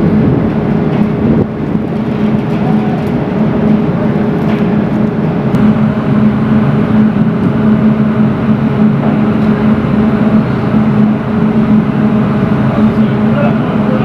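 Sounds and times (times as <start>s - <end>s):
machinery droning hum: 0.0s - 14.0s.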